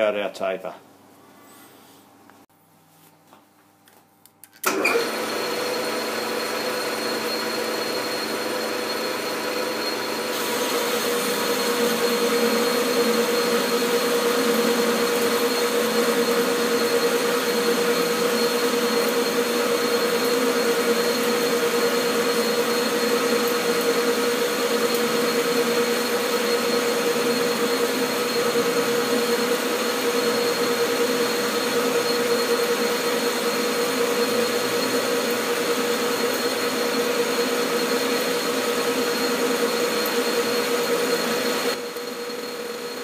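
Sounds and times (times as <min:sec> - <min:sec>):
lathe tool cutting metal: 0:04.7 - 0:43.0
metal lathe whining: 0:04.7 - 0:43.0.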